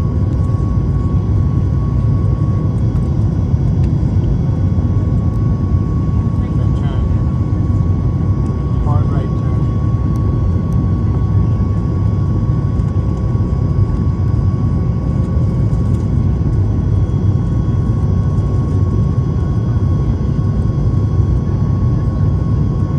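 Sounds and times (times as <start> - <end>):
jet engines roaring with high whine: 0.0 - 22.9.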